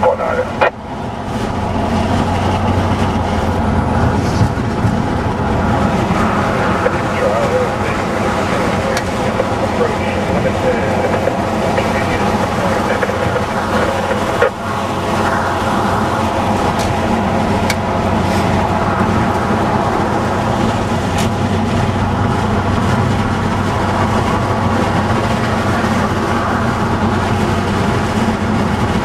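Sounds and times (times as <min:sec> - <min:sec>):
car engine running: 0:00.0 - 0:29.0
road noise: 0:00.0 - 0:29.0.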